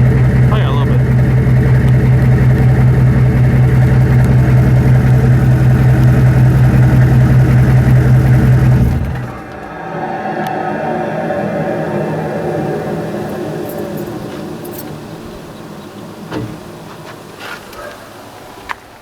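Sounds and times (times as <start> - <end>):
diesel truck engine idling: 0.0 - 18.7.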